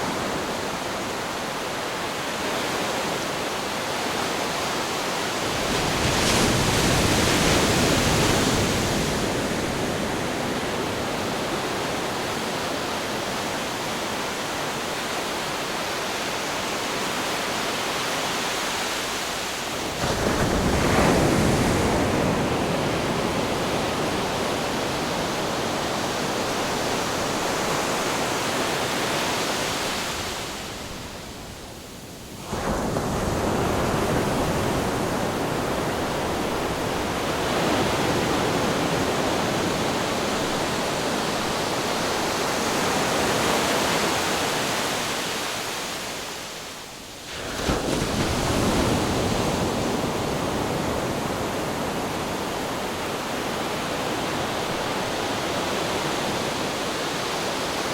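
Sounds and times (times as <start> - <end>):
ocean surf: 0.0 - 57.9
wind: 0.0 - 57.9.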